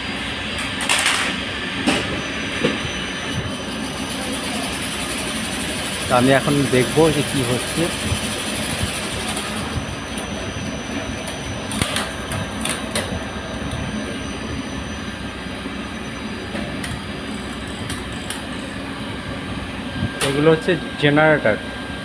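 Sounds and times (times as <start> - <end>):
elevator machinery running: 0.0 - 22.0.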